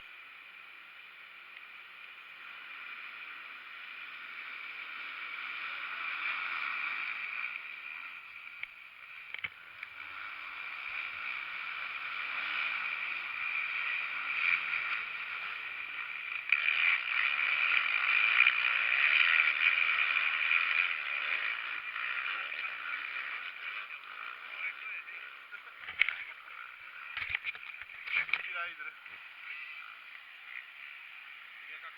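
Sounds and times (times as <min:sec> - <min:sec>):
motocross engines buzzing: 0:00.0 - 0:31.9.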